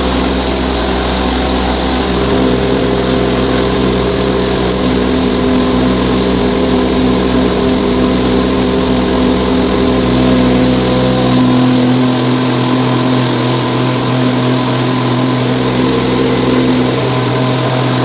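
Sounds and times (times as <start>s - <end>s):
grain mill droning: 0.0s - 18.0s.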